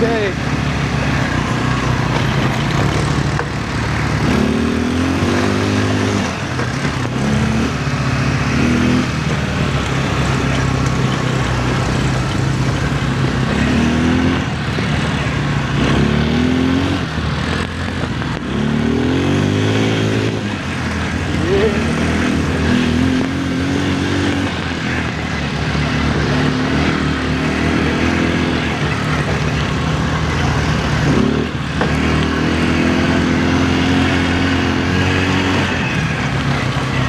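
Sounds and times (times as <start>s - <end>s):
quad bike engine revving: 0.0s - 37.0s.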